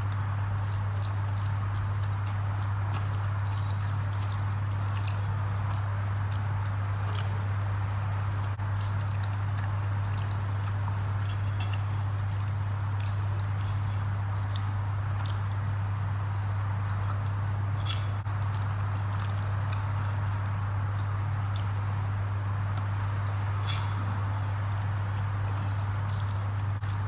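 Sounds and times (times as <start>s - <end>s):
chewing: 0.0s - 27.0s
fingers working wet rice: 0.0s - 27.0s
steady low hum: 0.0s - 27.0s.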